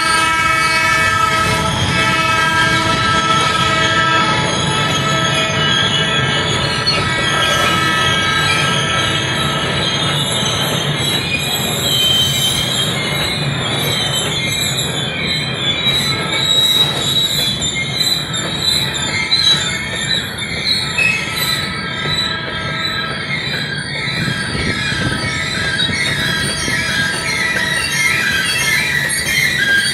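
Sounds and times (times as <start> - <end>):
low train rumble: 0.0 - 29.9
steel wheels squealing on rails: 0.0 - 29.9.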